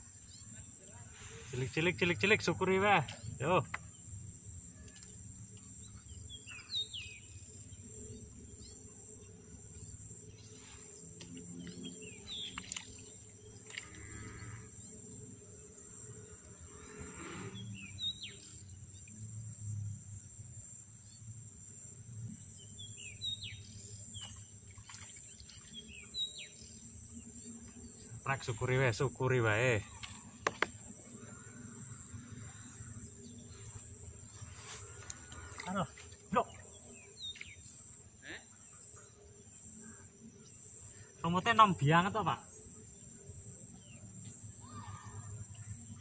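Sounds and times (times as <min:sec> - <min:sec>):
high-pitched insect drone: 0:00.0 - 0:46.0
birds chirping: 0:04.8 - 0:16.7, 0:17.4 - 0:19.1, 0:22.6 - 0:46.0.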